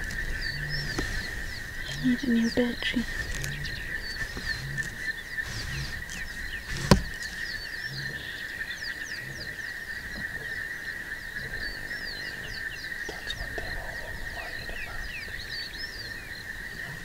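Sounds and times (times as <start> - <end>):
frogs and insects trilling: 0.0 - 17.0.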